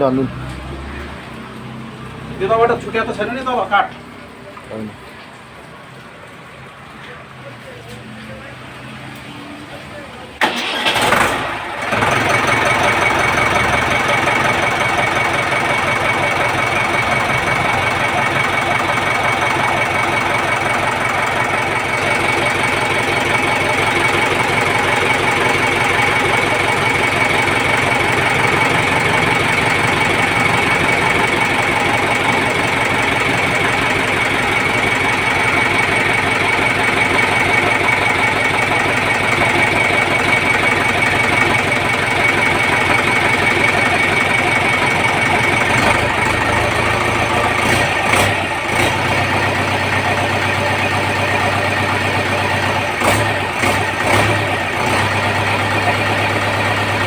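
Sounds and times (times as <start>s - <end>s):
engine clattering: 10.4s - 57.0s.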